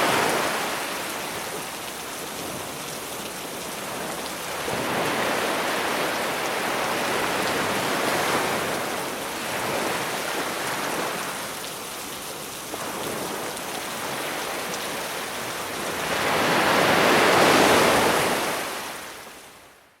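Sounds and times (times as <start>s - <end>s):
sea waves washing onto beach: 0.0s - 19.8s.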